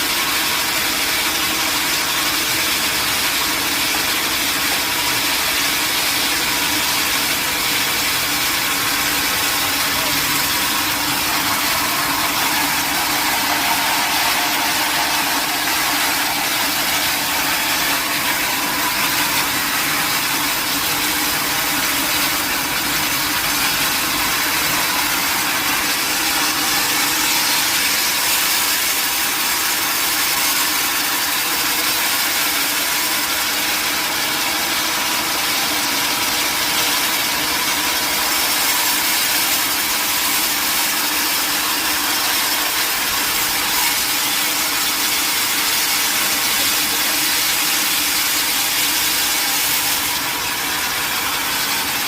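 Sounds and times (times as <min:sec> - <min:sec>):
sawmill machinery running: 0:00.0 - 0:52.0.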